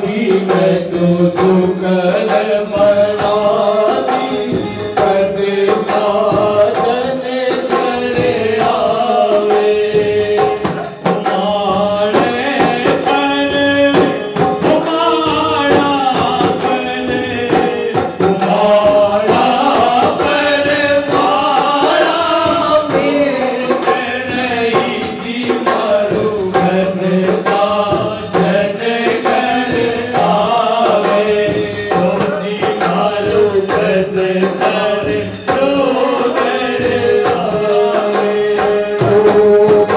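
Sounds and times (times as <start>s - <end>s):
folk singing: 0.0s - 39.9s
steady percussion beat: 0.0s - 39.9s.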